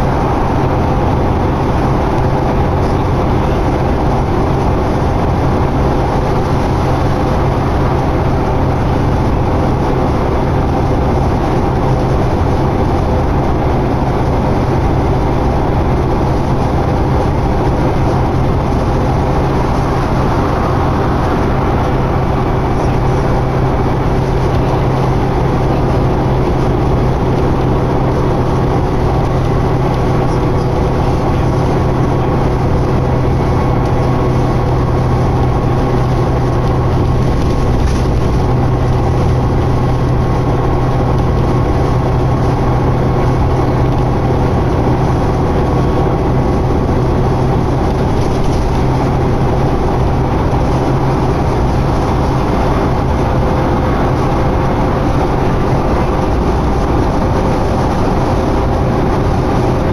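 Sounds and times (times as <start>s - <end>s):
bus engine drone: 0.0s - 59.9s
road and tyre noise: 0.0s - 59.9s.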